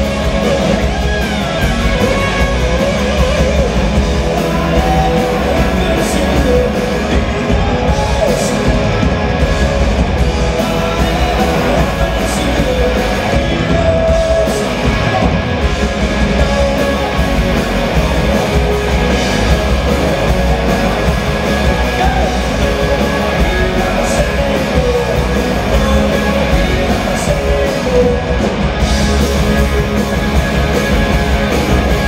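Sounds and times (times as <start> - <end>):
bass guitar: 0.0 - 32.0
distorted electric guitars: 0.0 - 32.0
drums with crashing cymbals: 0.0 - 32.0
keyboards: 0.0 - 32.0.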